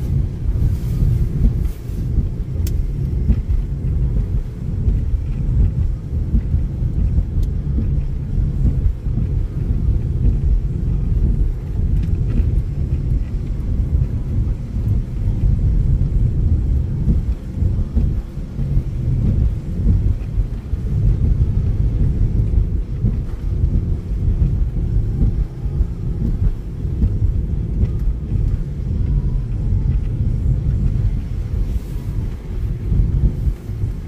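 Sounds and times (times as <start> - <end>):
car tyres on wet road: 0.0 - 34.0.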